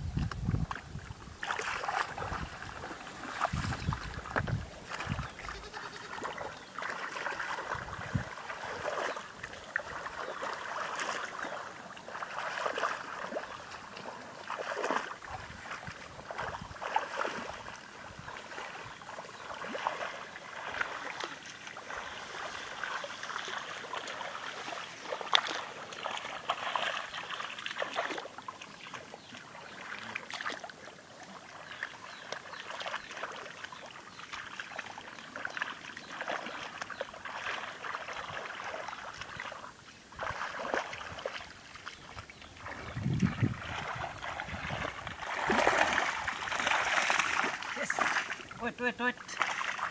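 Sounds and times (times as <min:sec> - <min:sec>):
muddy water sloshing and splashing: 0:00.0 - 0:49.9.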